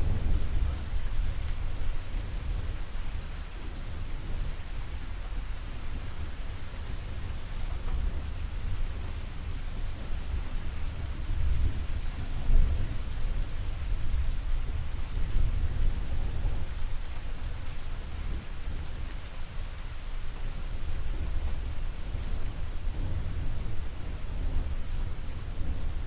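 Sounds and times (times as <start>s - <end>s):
rolling thunder rumble: 0.0s - 26.0s
steady rain: 0.0s - 26.0s.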